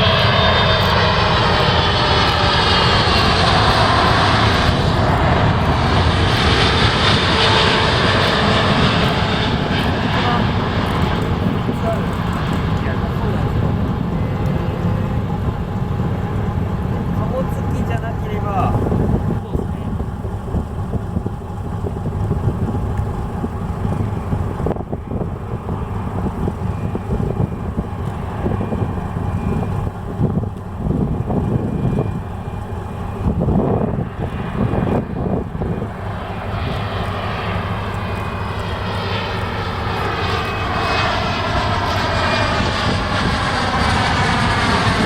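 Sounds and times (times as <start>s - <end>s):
jet airliner whine overhead: 0.0s - 45.0s
steady low rumble: 0.0s - 45.0s.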